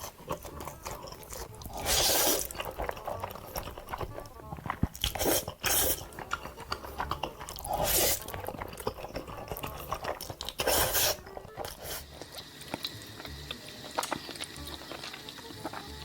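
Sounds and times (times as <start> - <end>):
wet mouth clicks: 0.0 - 15.8
crunchy chewing: 0.0 - 16.0.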